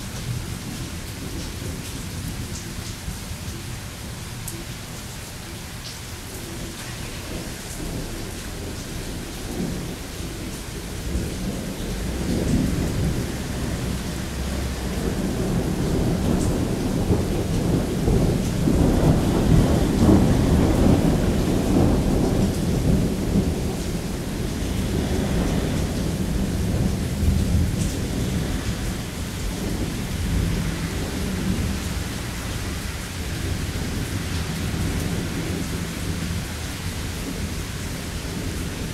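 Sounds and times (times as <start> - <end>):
heavy rain hissing: 0.0 - 38.9
rolling thunder: 7.2 - 38.9.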